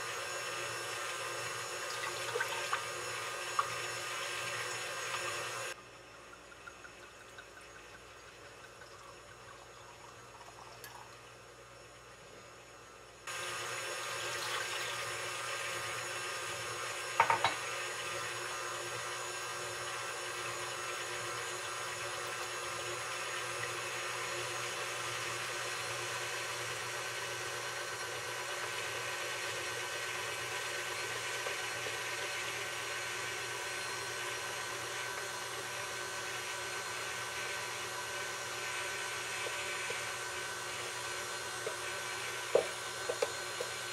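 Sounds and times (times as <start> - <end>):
stand mixer whisking batter: 0.0 - 10.9, 13.3 - 43.9.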